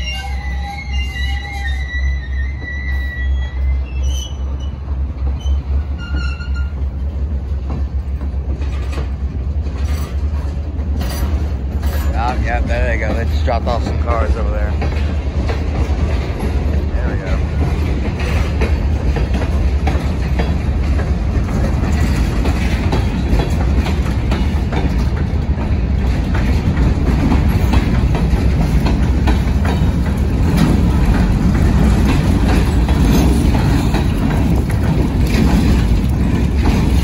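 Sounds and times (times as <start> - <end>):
freight train rumbling: 0.0 - 37.0
train wheels clacking on rails: 3.5 - 37.0.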